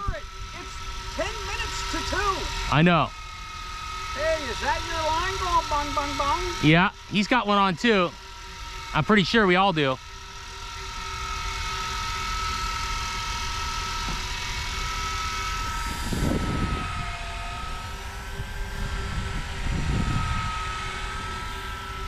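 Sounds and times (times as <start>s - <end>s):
electric fishing reels whining: 0.0s - 22.0s.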